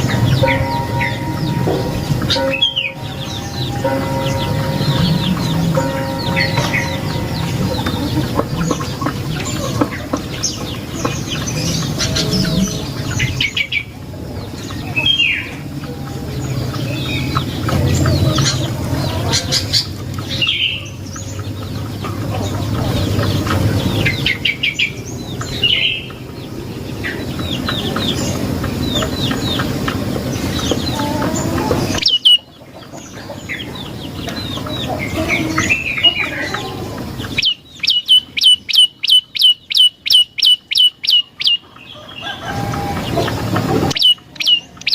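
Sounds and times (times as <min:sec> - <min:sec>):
songbird ticking trills and chirps: 0:00.0 - 0:44.9.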